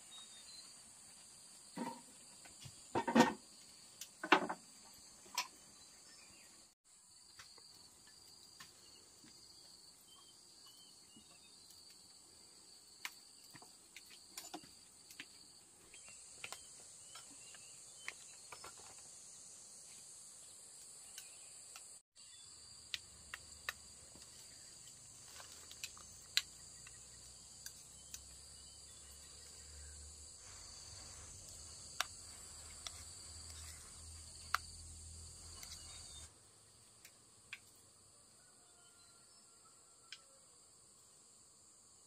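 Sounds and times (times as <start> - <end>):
insects chirring: 0.1 - 39.5.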